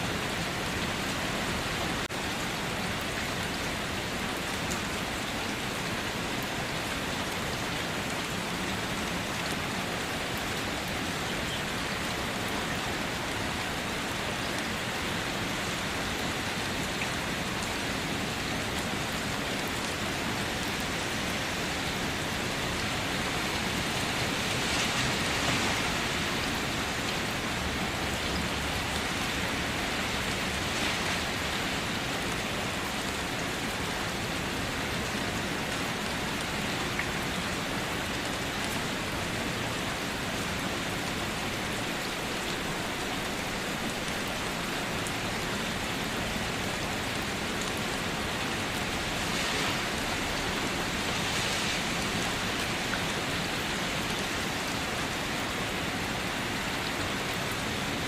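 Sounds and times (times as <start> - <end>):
rain falling on surfaces: 0.0 - 58.0.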